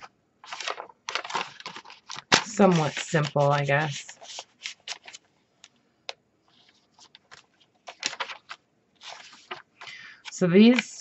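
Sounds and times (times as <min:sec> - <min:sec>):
paper pages rustling: 0:00.0 - 0:05.3, 0:06.4 - 0:11.0.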